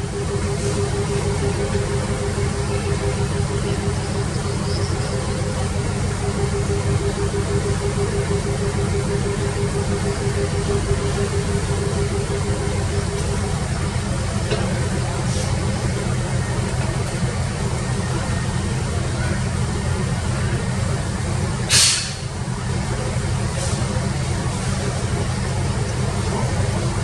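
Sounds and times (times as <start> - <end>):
excavator diesel engine running: 0.0 - 27.0
steady whine: 0.0 - 27.0.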